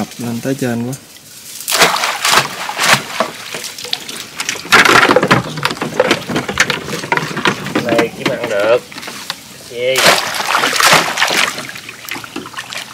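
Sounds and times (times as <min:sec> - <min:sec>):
water splashing and streaming: 0:01.1 - 0:12.9.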